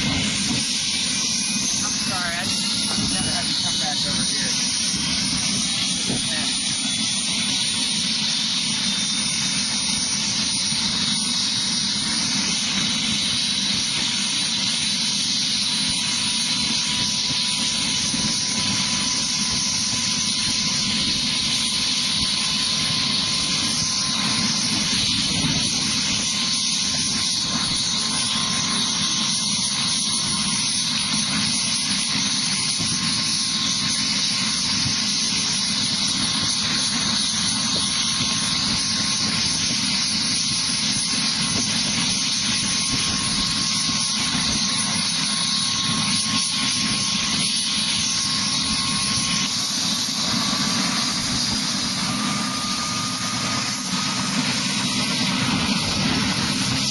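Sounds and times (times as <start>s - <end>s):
helicopter turbine and rotor: 0.0s - 56.9s.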